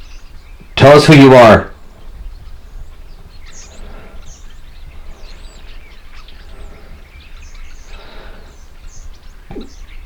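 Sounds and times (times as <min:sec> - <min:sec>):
birds chirping: 0:00.0 - 0:10.0
low background rumble: 0:01.7 - 0:10.0.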